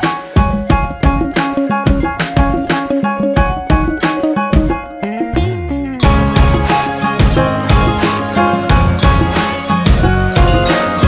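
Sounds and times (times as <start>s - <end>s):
music with quick drum beat: 0.0s - 11.0s.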